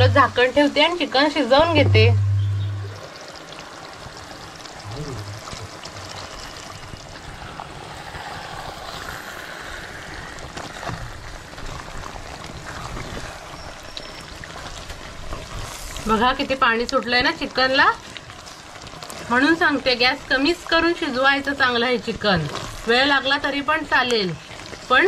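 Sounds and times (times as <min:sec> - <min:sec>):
chicken simmering and bubbling: 0:00.0 - 0:25.0.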